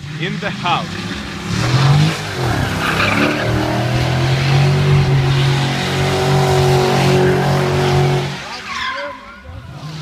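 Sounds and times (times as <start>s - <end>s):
car engine at high revs: 0.0s - 8.7s.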